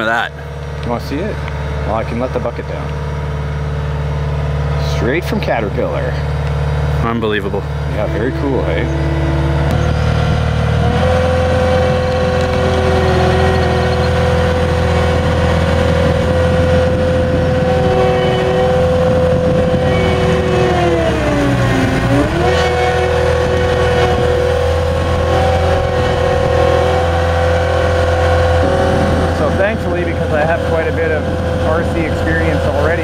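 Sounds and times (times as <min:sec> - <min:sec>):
diesel engine whining: 0:00.0 - 0:33.0.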